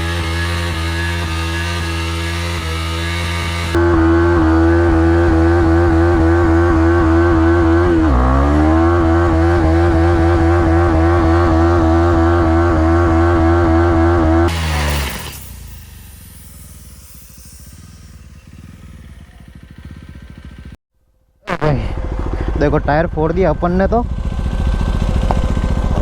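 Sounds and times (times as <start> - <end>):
motorcycle engine revving high: 0.0 - 20.8, 21.5 - 26.0.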